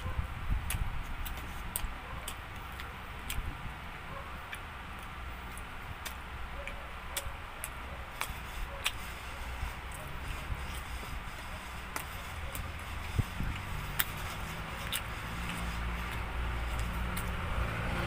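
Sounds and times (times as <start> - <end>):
person chewing: 0.7 - 3.5, 4.4 - 17.6.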